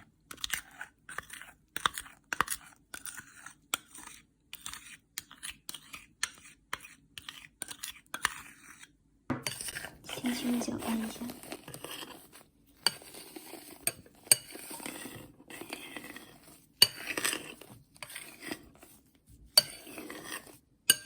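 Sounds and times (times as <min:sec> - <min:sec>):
spatula scraping in a bowl: 0:00.3 - 0:21.0.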